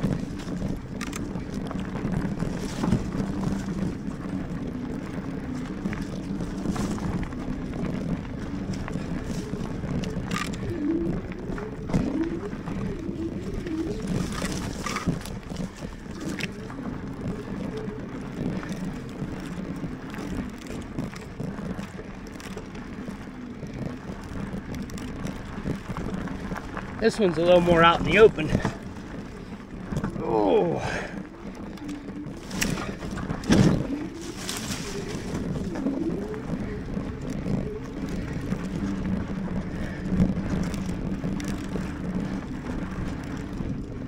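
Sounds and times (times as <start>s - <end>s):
bike rolling and drivetrain noise: 0.0s - 44.0s
wind on microphone: 0.0s - 44.0s.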